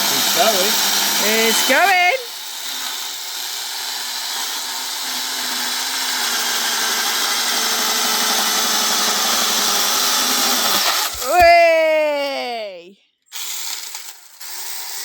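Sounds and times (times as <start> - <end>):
chainsaw cutting through log: 0.0 - 11.6, 13.3 - 15.0.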